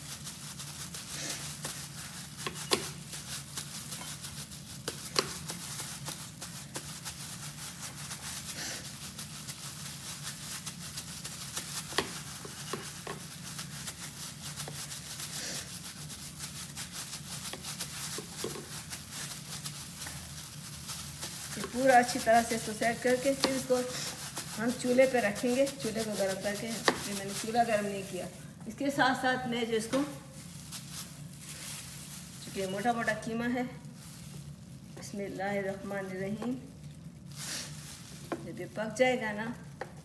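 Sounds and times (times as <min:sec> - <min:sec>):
plastic rustling on wet mince: 0:00.0 - 0:40.0.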